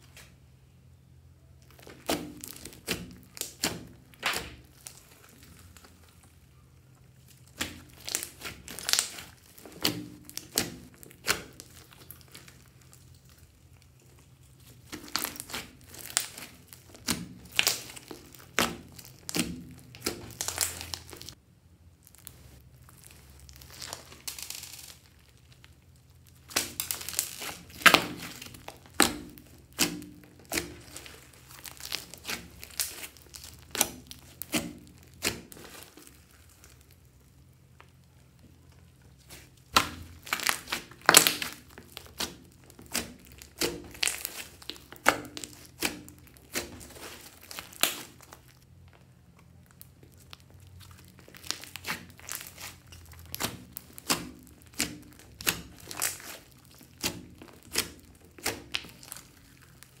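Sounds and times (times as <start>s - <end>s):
slime popping and crackling: 1.6s - 21.4s, 22.0s - 60.0s.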